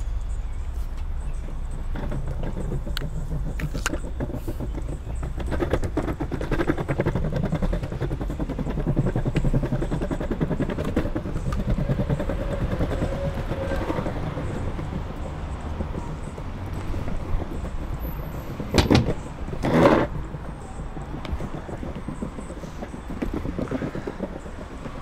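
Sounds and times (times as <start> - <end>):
longboard wheels rumbling on pavement: 0.0 - 25.0
traffic hum: 0.0 - 25.0
vehicle engine: 0.0 - 25.0.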